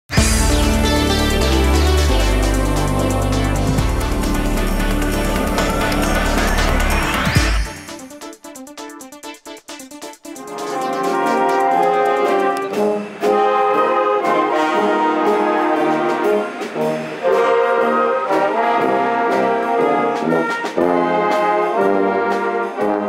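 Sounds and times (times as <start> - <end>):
tuba bass line: 0.1 - 8.0, 10.4 - 23.0
brass and saxophone chords: 0.1 - 23.0.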